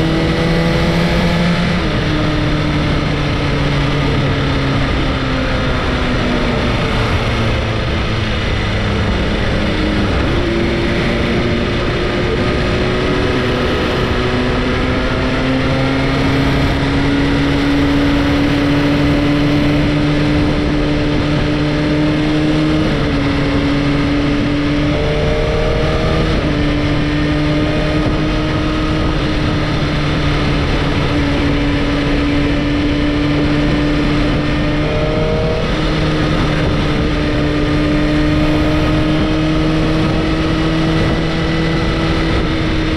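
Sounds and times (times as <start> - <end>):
motorcycle engine cruising: 0.0 - 42.9
wind rush: 0.0 - 42.9.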